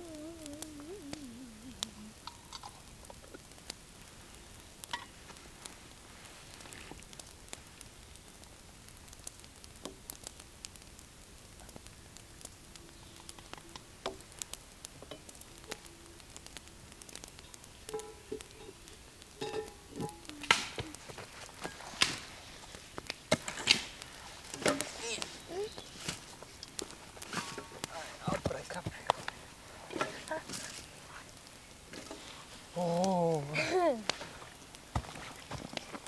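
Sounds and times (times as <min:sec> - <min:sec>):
stew simmering and sizzling in a pot: 0:00.0 - 0:36.0.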